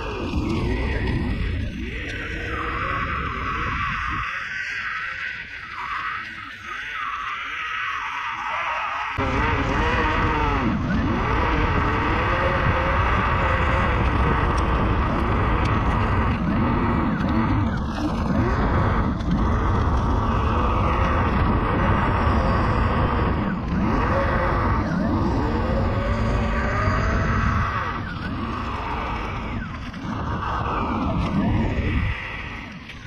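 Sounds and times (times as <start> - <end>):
wind rumble on microphone: 0.0 - 6.8, 9.2 - 33.0.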